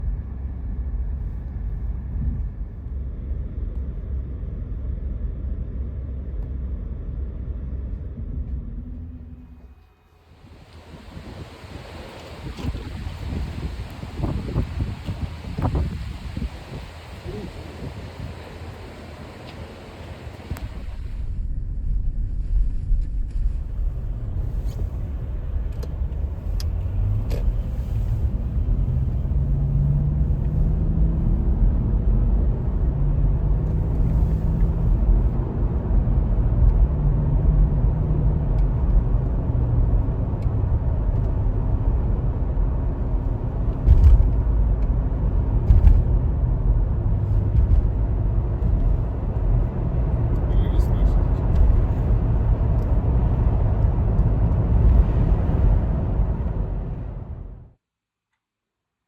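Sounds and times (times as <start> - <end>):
car engine and road rumble: 0.0 - 57.8.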